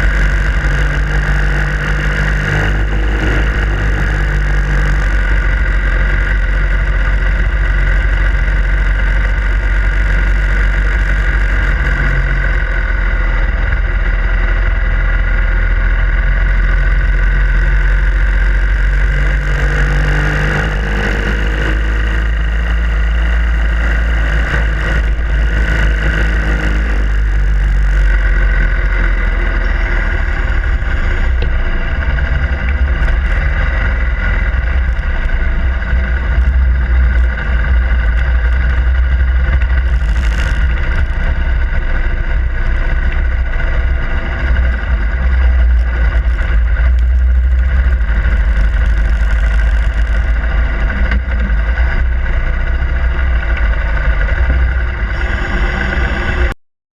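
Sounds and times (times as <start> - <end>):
motorcycle engine running: 0.0 - 56.6.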